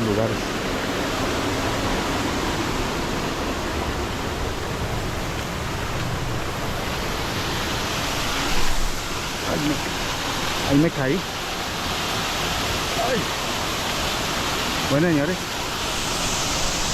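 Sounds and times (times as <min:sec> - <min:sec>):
waterfall roar: 0:00.0 - 0:16.9.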